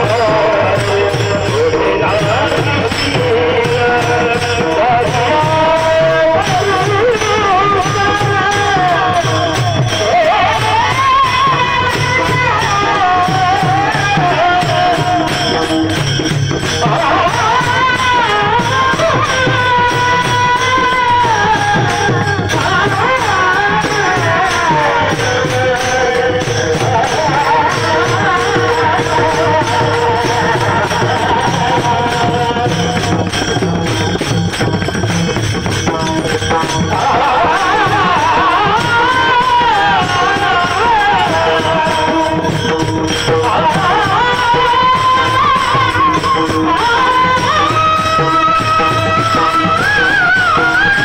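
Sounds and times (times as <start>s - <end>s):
hand percussion with jingling: 0.0s - 51.0s
man singing long held notes: 0.0s - 51.0s.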